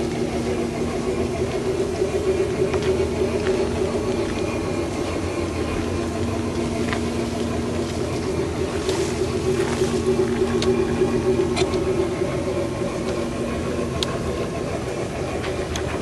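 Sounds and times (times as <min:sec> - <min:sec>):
model train motor humming: 0:00.0 - 0:16.0.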